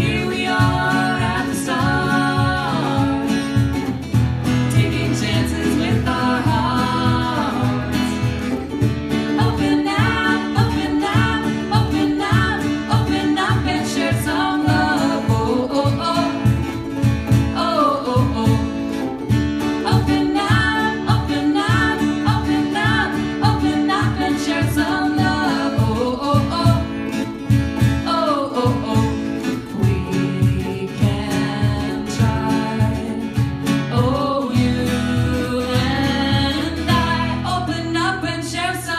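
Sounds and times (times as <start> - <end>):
person singing country song: 0.0 - 38.9
plucked guitar: 0.0 - 38.9.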